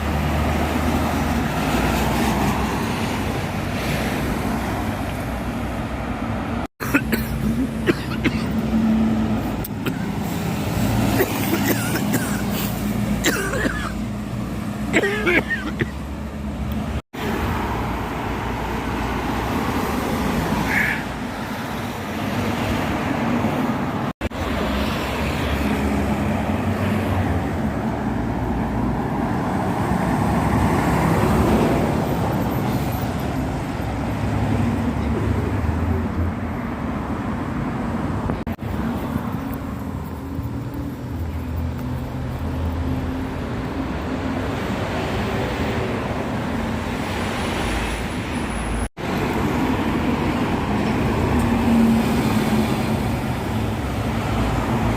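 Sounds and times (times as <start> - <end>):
heavy vehicle engines running: 0.0 - 54.9
road traffic: 0.0 - 54.9.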